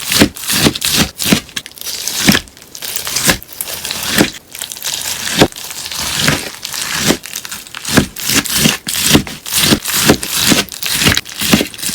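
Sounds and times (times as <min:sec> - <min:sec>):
crunchy slime crackling: 0:00.0 - 0:11.9.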